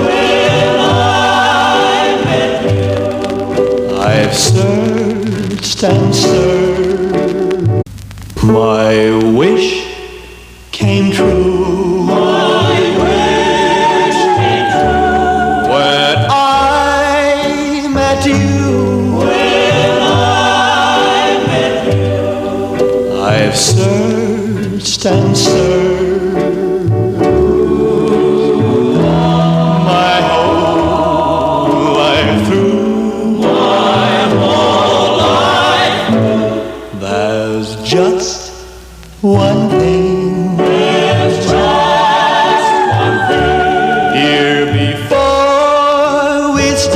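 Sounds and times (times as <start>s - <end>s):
choir singing harmonies: 0.0s - 7.8s, 8.5s - 46.9s
record surface crackle: 0.0s - 46.9s
vocal ballad from a record: 0.0s - 46.9s.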